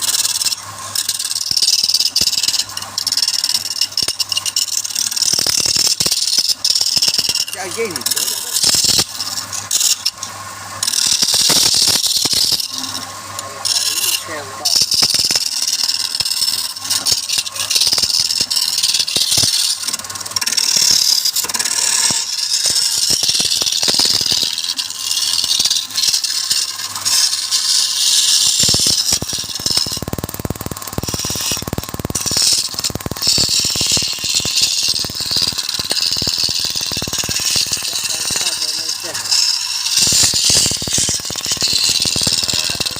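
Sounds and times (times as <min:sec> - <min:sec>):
wood lathe cutting tool scraping: 0:00.0 - 0:42.9.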